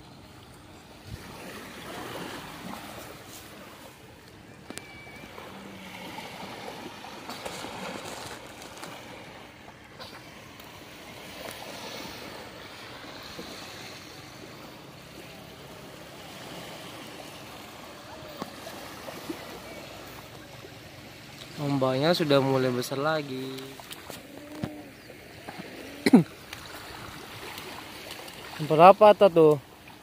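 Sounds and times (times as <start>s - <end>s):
small waves lapping on beach: 0.0s - 30.0s.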